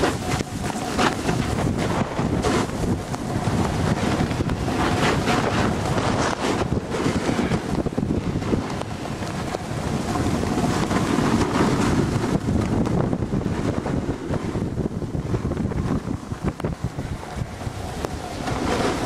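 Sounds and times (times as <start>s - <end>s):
snowboard sliding over snow: 0.0s - 19.0s
wind noise on microphone: 0.0s - 19.0s.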